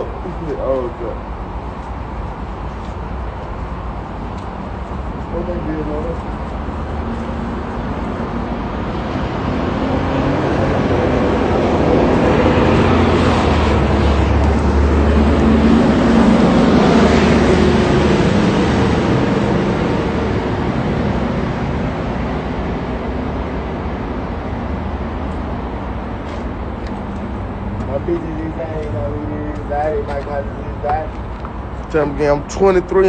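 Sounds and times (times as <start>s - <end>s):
road vehicle passing: 0.0s - 33.0s.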